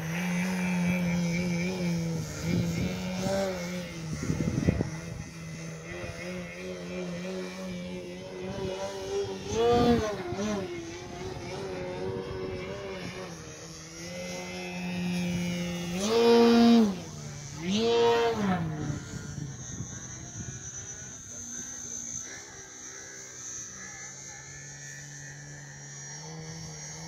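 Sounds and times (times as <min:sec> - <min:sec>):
electric model plane motor whining: 0:00.0 - 0:27.0.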